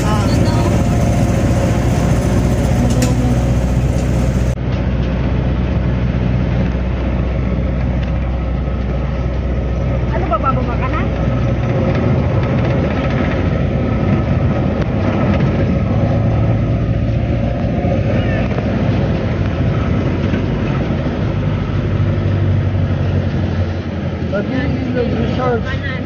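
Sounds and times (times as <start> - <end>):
road noise: 0.0 - 26.0
vehicle engine running: 0.0 - 26.0.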